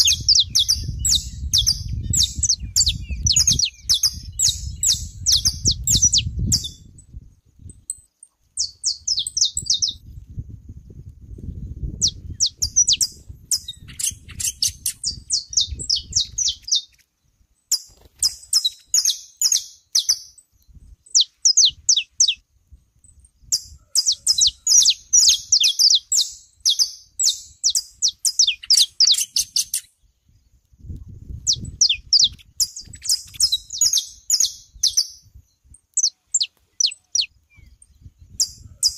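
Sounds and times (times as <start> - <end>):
finches chirping: 0.0 - 7.0, 7.7 - 10.1, 11.9 - 17.1, 17.7 - 22.4, 23.1 - 30.1, 31.4 - 38.9.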